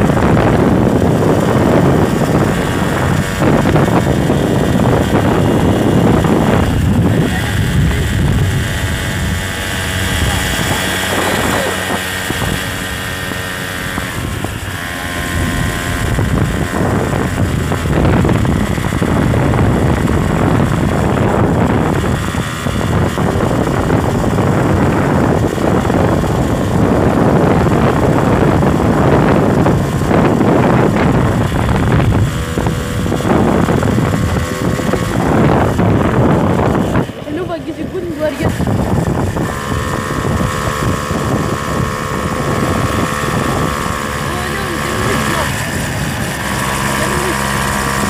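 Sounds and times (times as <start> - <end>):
vehicle engine on dirt track: 0.0 - 48.0
wind noise on microphone: 0.0 - 48.0.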